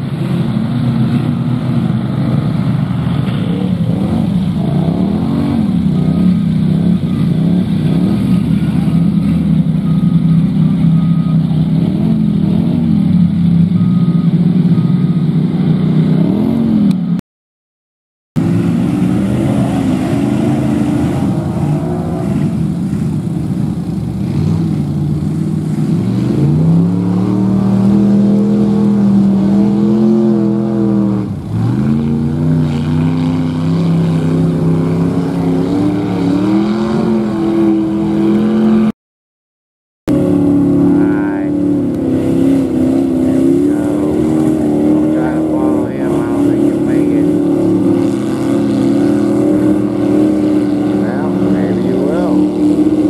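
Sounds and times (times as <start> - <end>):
truck engine revving: 0.0 - 17.2, 18.4 - 38.9, 40.1 - 53.0.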